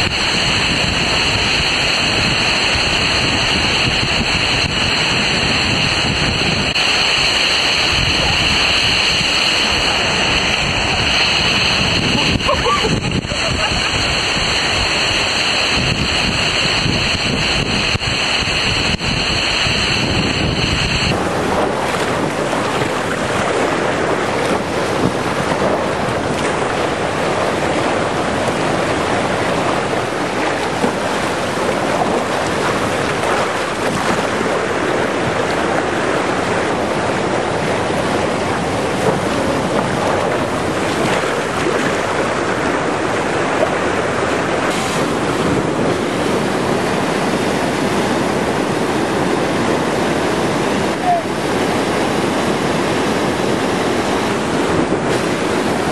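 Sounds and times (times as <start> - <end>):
water rushing: 0.0 - 55.9
wind noise on microphone: 0.0 - 55.9.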